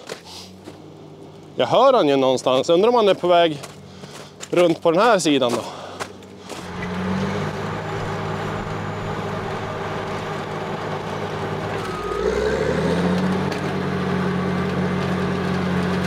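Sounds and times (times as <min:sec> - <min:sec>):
bulldozer diesel engine running: 0:00.5 - 0:16.0.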